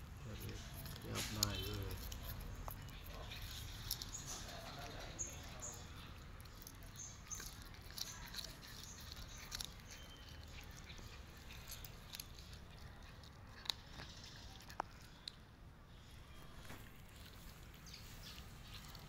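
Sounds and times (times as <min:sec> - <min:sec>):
cat chewing meat: 0:00.0 - 0:19.0.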